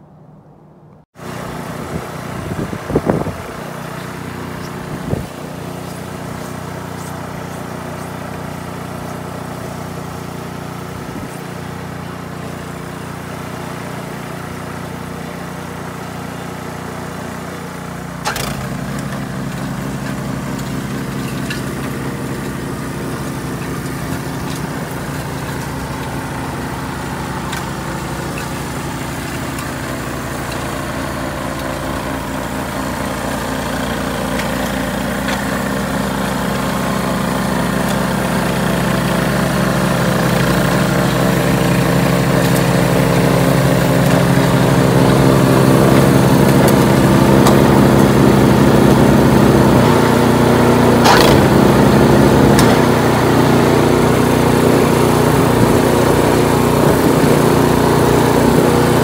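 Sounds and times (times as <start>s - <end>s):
snowblower engine running: 1.2s - 59.0s.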